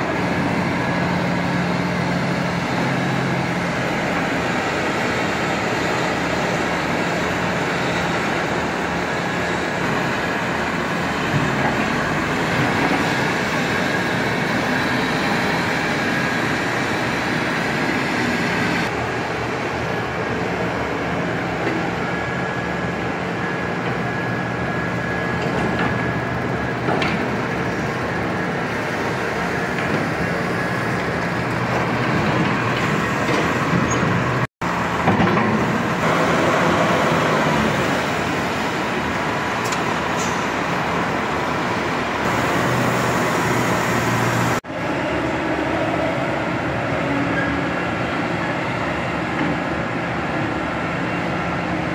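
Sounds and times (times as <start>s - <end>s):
heavy diesel machinery running: 0.0s - 51.9s.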